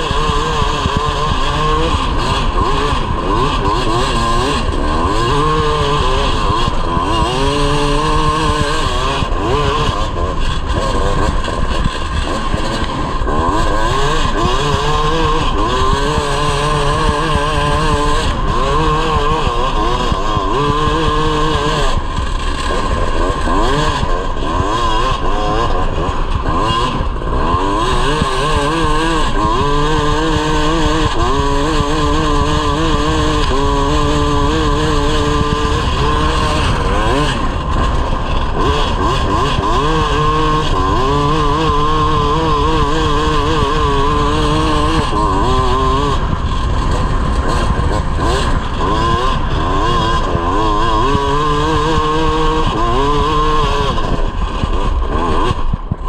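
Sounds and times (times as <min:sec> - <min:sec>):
two-stroke kart engine revving: 0:00.0 - 0:56.0.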